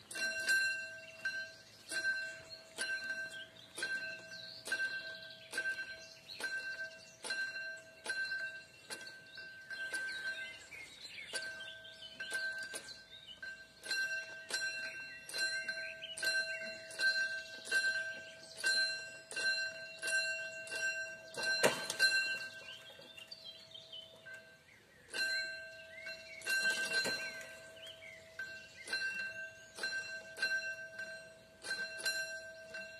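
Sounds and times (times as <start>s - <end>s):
level crossing warning bell: 0.0s - 32.9s.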